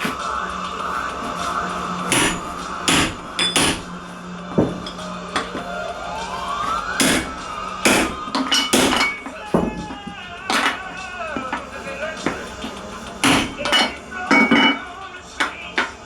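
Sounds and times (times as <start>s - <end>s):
hammer striking angle iron: 1.2s - 5.7s, 6.6s - 16.0s.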